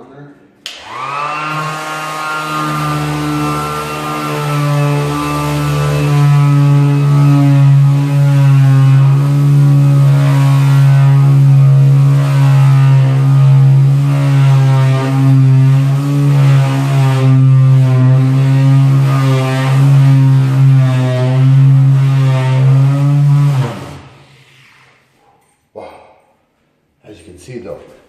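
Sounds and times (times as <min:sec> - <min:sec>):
orbit sander sanding wood: 0:00.7 - 0:24.3.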